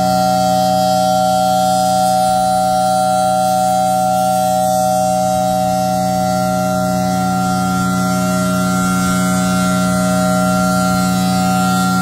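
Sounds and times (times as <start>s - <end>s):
warning siren steady tone: 0.0s - 12.0s.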